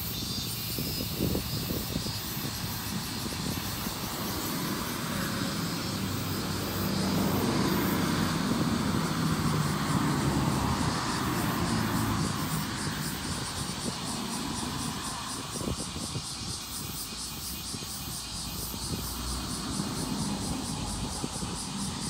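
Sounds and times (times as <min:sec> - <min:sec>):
cicadas buzzing: 0:00.0 - 0:22.0.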